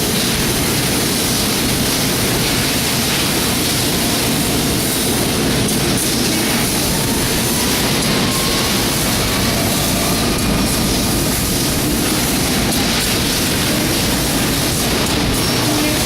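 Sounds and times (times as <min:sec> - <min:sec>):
laser cutter hiss and rumble: 0:00.0 - 0:16.0.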